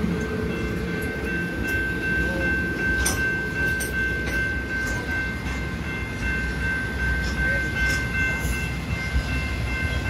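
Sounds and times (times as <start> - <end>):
level crossing warning bell: 0.0 - 10.0
train wheels rumbling on rails: 0.0 - 10.0.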